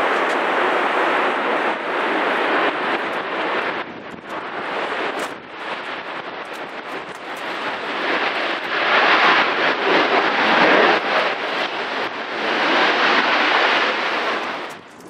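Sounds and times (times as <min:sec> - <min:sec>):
jet engines at high power: 0:00.0 - 0:15.0
wind buffeting microphone: 0:00.0 - 0:15.0.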